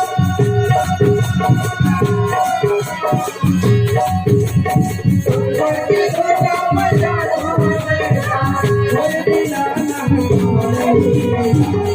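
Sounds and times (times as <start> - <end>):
folk vocal melody: 0.0 - 11.9
steady drum rhythm: 0.0 - 11.9.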